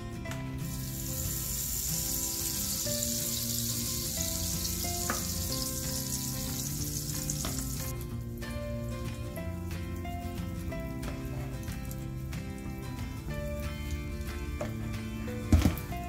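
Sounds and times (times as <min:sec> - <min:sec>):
background music: 0:00.0 - 0:16.0
grease sizzling on hot plates: 0:00.4 - 0:16.0.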